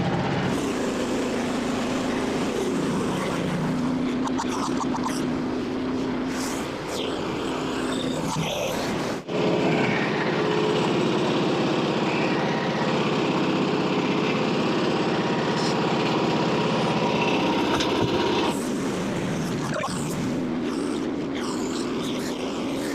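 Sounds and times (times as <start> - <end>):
small gas engine running: 0.0 - 22.9.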